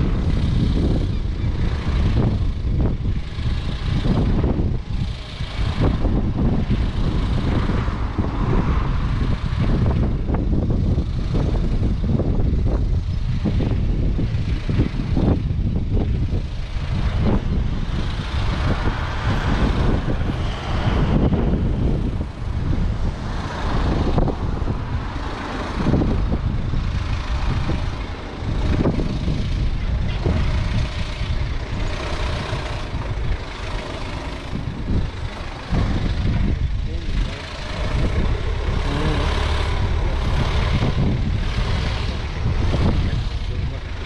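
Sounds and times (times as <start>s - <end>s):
rushing noise: 0.0s - 14.2s, 14.8s - 44.0s
vehicle engine and road rumble: 0.0s - 44.0s.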